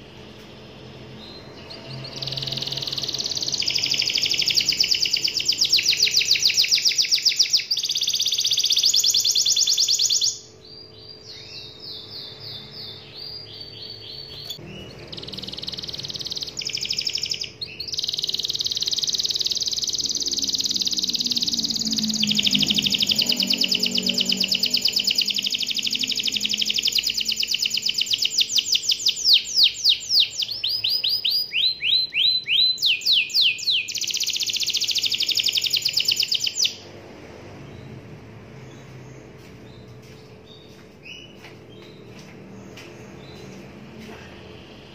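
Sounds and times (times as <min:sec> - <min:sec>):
canary singing trills: 0:00.0 - 0:37.0.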